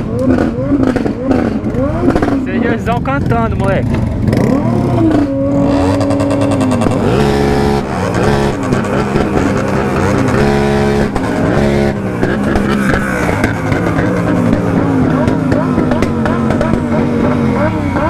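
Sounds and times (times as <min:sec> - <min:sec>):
motorcycles revving: 0:00.0 - 0:18.0.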